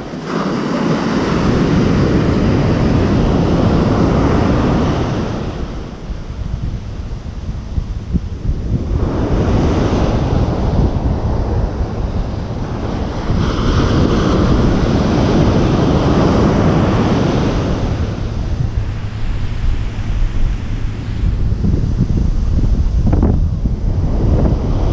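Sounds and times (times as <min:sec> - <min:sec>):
ocean surf breaking on beach: 0:00.0 - 0:24.9
wind buffeting microphone: 0:00.0 - 0:24.9.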